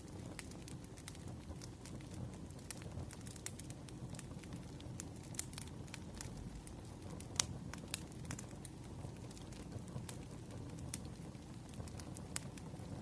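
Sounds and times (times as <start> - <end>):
campfire crackling and popping: 0.0 - 13.0
low rumble of burning wood: 0.0 - 13.0.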